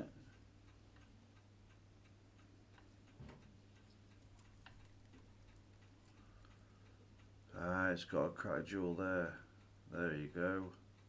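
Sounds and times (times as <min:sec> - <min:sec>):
clock ticking: 0:00.0 - 0:11.0
low electrical hum: 0:00.0 - 0:11.0.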